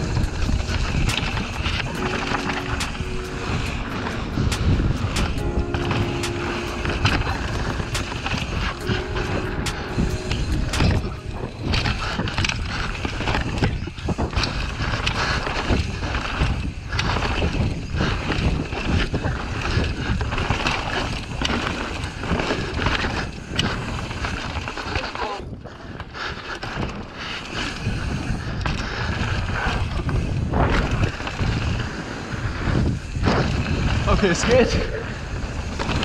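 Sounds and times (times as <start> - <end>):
bike tyres rolling on dirt: 0.0 - 8.8, 11.4 - 36.0
wind buffeting microphone: 0.0 - 24.8, 25.4 - 36.0.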